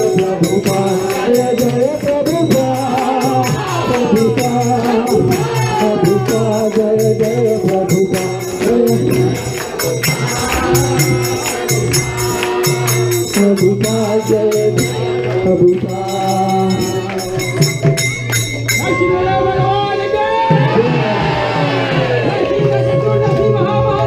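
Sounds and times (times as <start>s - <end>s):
group singing a chant: 0.0s - 17.7s, 18.8s - 24.0s
small hand cymbals ringing: 0.0s - 20.4s.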